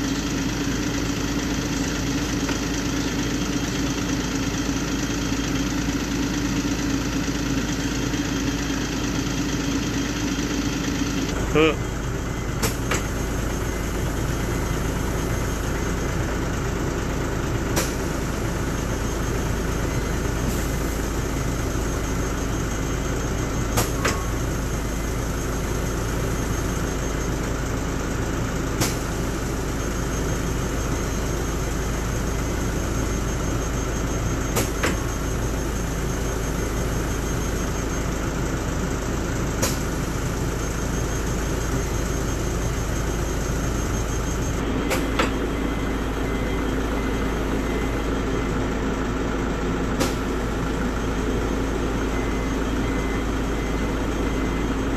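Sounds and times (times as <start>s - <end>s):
bus engine idling: 0.0s - 54.9s.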